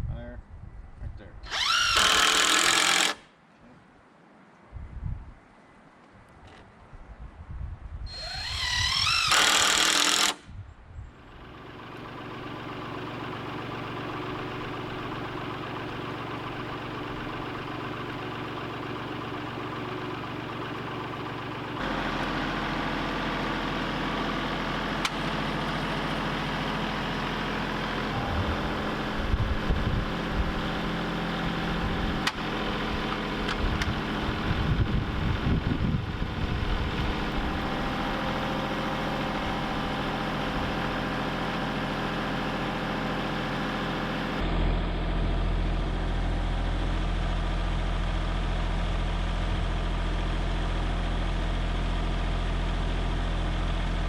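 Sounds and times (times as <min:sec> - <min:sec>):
engine running: 0:08.1 - 0:10.4, 0:11.1 - 0:54.0.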